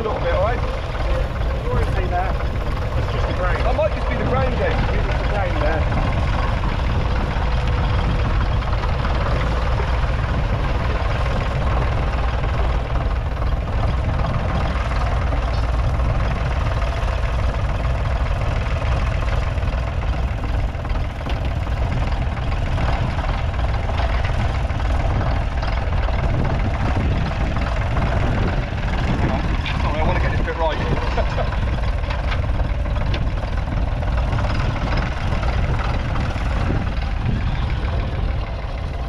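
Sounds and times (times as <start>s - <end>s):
diesel tractor engine under load: 0.0s - 39.0s.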